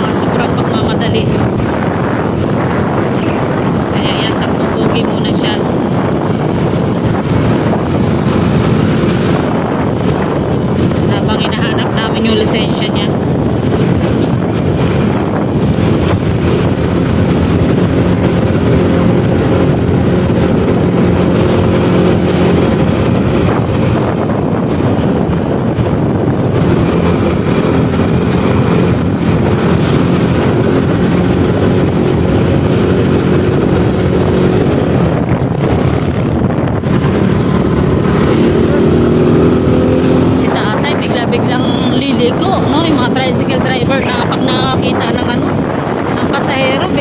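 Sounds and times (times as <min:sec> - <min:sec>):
motorcycle engine running: 0:00.0 - 0:47.0
wind buffeting microphone: 0:00.0 - 0:47.0.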